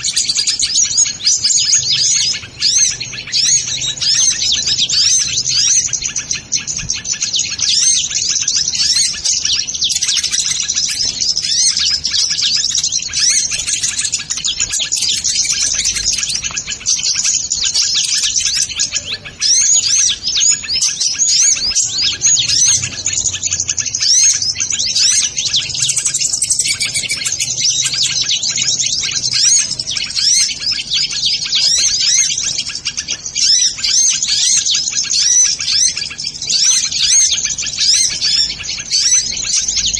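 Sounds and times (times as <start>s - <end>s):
sunbirds chirping and twittering: 0.0s - 39.9s.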